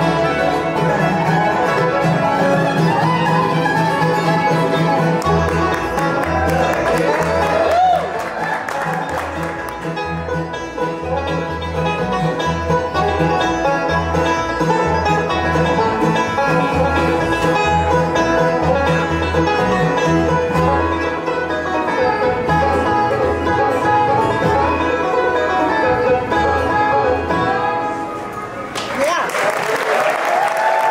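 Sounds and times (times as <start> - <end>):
upright bass notes: 0.0 - 28.2
fiddle: 0.0 - 28.6
banjo: 0.0 - 28.7
mandolins: 0.0 - 28.7
acoustic guitar: 0.0 - 28.8.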